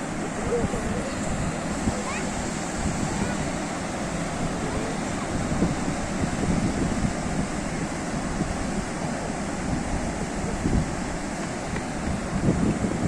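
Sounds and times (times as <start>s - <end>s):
sea waves breaking ashore: 0.0s - 13.0s.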